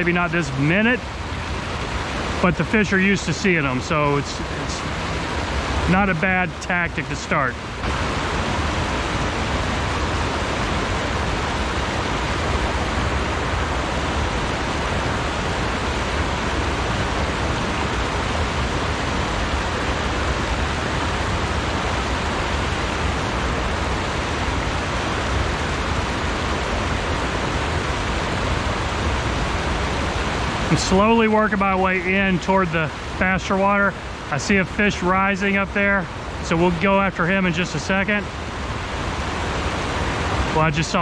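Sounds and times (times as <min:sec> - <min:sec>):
river rushing over stones: 0:00.0 - 0:41.0.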